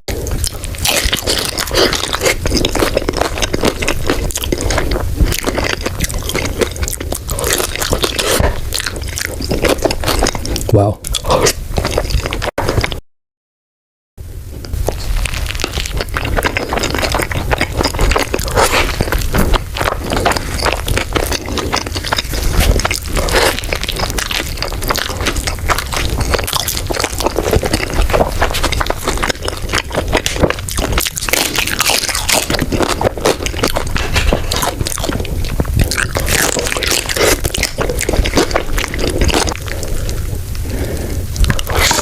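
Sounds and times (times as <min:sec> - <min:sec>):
biting and chewing food: 0:00.0 - 0:13.0, 0:14.5 - 0:42.0.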